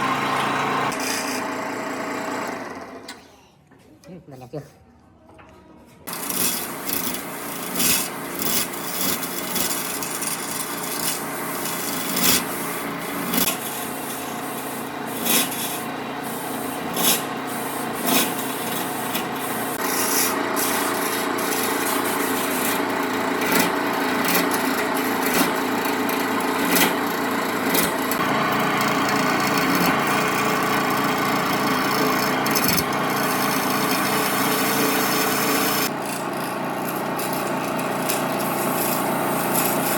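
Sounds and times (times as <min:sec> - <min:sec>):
wood being sanded: 0:06.1 - 0:39.9.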